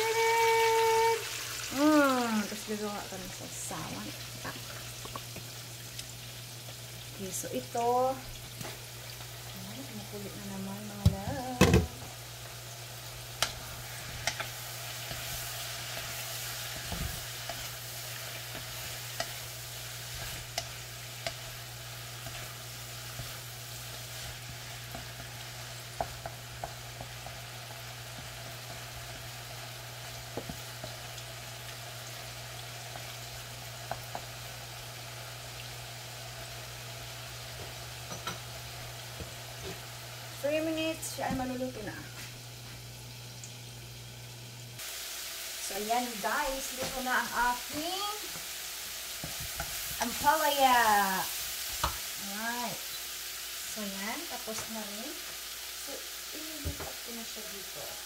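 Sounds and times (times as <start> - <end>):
food sizzling in frying pan: 0.0 - 58.0.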